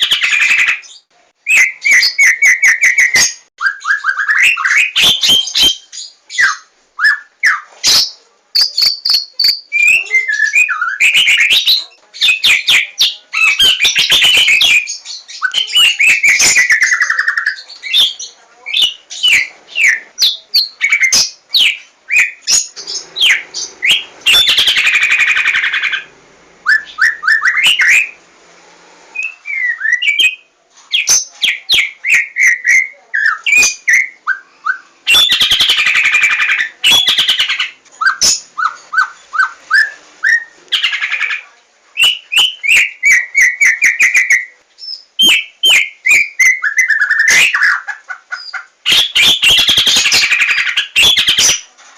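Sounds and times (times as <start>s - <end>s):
songbird whistling song: 0.0s - 28.2s, 29.1s - 41.4s, 42.0s - 51.7s.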